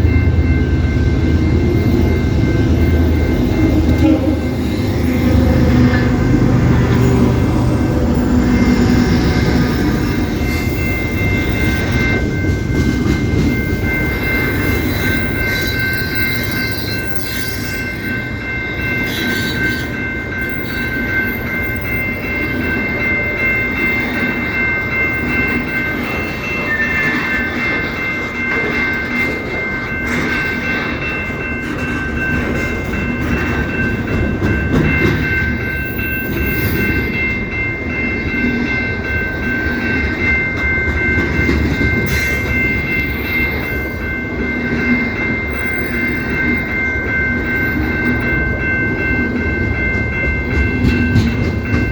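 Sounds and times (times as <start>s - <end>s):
high-pitched steady tones: 0.0s - 51.9s
train rumbling on track: 0.0s - 51.9s.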